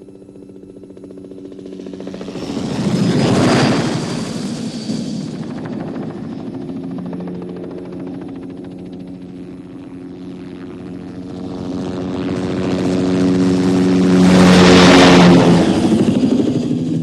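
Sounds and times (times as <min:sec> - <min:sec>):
helicopter engine and rotors: 0:00.0 - 0:17.0.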